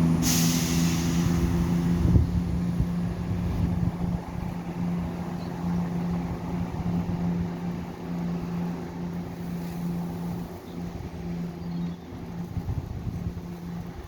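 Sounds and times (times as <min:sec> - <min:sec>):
diesel train engine idling: 0:00.0 - 0:14.0.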